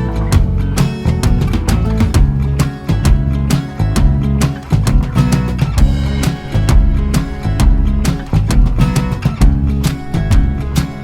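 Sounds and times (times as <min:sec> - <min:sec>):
guitar-driven music with steady beat: 0:00.0 - 0:11.0.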